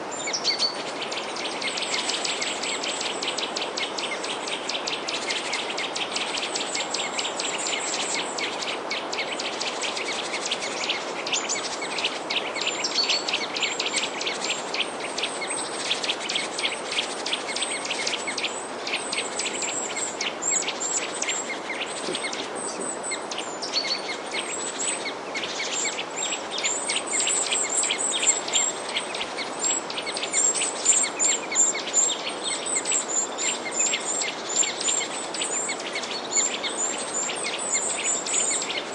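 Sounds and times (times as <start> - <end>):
background hiss: 0.0 - 38.9
flock of birds chirping: 0.0 - 38.9.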